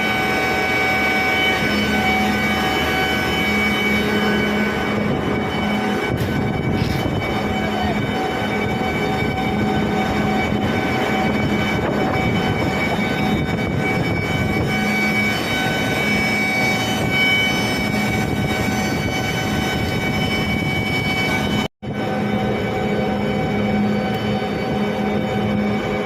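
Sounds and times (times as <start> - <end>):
compressor humming with whining tones: 0.0 - 26.0.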